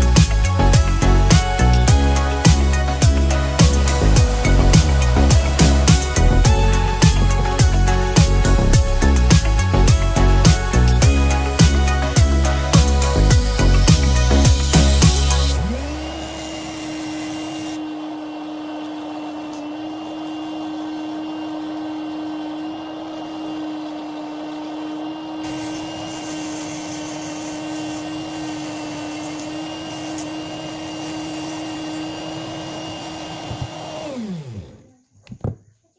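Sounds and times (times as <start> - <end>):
die grinder motor whining: 0.0 - 35.0.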